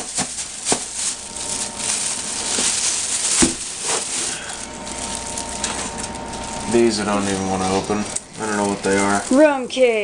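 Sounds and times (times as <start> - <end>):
food packaging rustling: 0.0 - 10.0.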